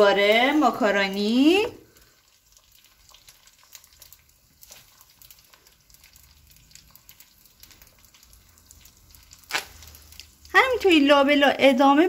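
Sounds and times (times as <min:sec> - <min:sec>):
oil crackling frying bread: 0:00.0 - 0:12.0.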